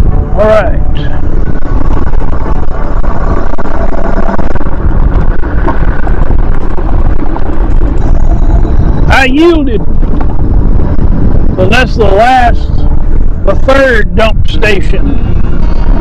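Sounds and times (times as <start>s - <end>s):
faint steady whine: 0.0s - 16.0s
wind buffeting microphone: 0.0s - 16.0s.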